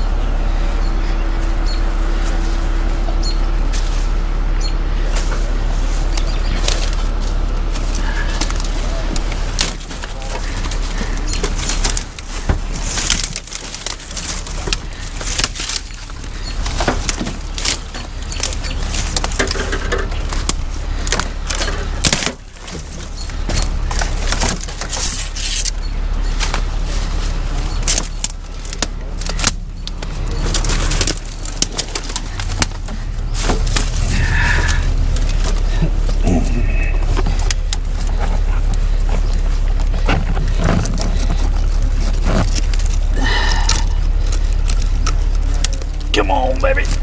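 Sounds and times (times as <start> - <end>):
low hum: 0.0 - 47.0
dry branches cracking and snapping: 0.1 - 47.0.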